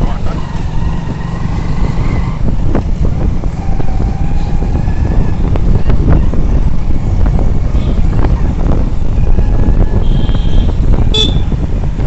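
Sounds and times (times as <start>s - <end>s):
motorcycle engine at speed: 0.0s - 12.0s
wind rumble on microphone: 0.0s - 12.0s.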